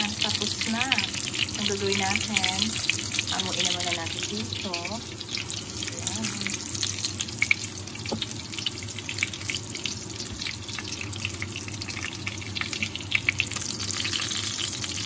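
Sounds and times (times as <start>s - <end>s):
oil sizzling with crackling pops: 0.0s - 15.0s.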